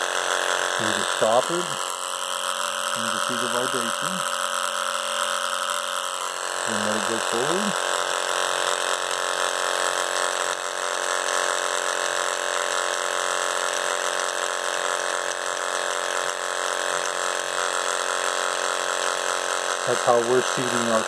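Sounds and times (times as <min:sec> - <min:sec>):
vibration motor buzzing: 0:00.0 - 0:21.0.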